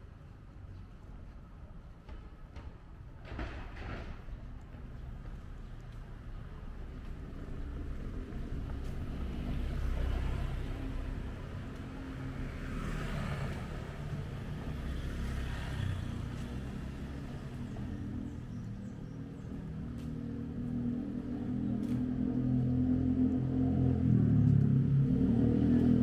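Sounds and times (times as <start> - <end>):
vehicles passing: 0.0 - 26.0
motorbike passing: 5.0 - 26.0.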